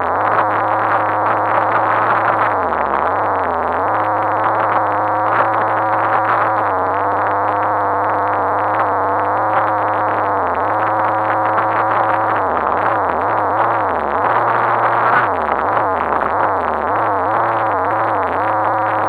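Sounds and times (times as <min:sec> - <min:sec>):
muffled toy car motor hum: 0:00.0 - 0:19.0.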